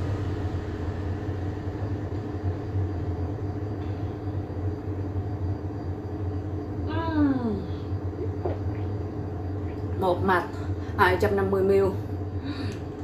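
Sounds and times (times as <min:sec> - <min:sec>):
low mechanical hum and rumble: 0:00.0 - 0:13.0.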